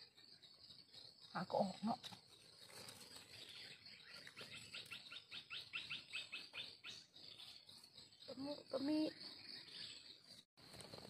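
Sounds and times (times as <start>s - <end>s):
faint insect drone: 0.0s - 9.8s.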